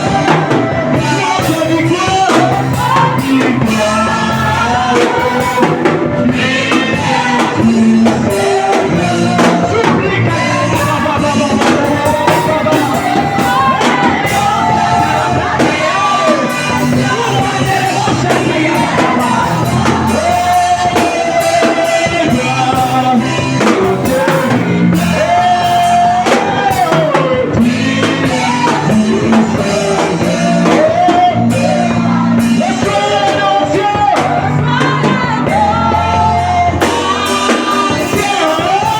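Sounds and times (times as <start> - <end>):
singing with instruments and beat: 0.0 - 38.9.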